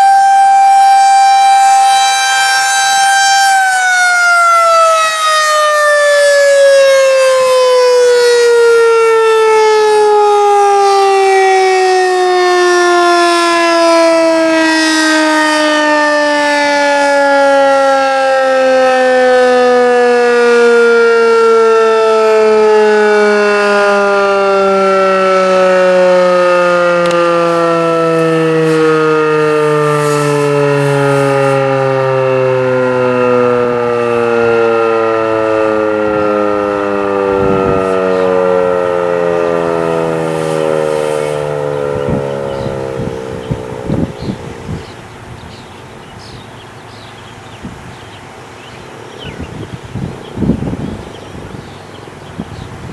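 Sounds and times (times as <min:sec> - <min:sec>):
warning siren winding down: 0:00.0 - 0:46.4, 0:47.6 - 0:52.9.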